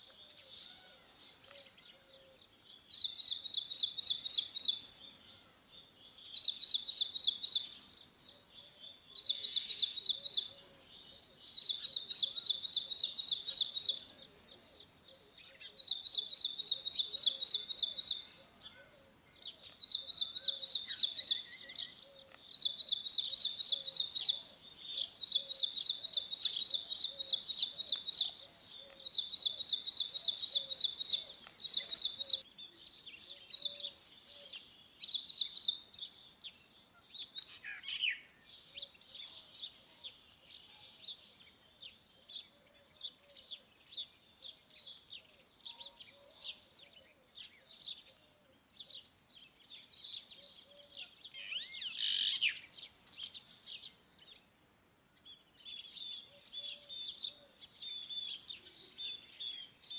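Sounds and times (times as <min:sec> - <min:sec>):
faint lower bird chirps: 0:00.0 - 0:59.9.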